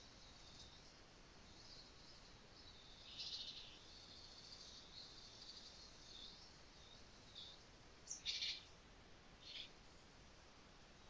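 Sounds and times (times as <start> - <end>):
small birds chirping: 0.0 - 10.0
outdoor background hiss: 0.0 - 11.0.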